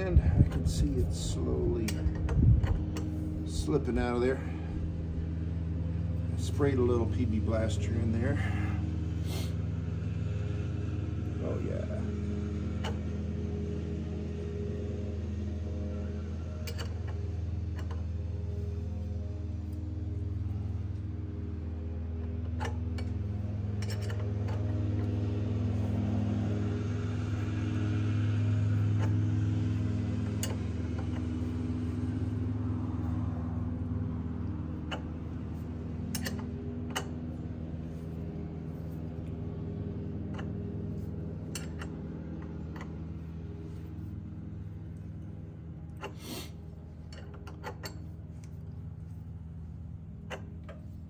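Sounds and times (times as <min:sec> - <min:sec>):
low mechanical hum: 0:00.0 - 0:51.0.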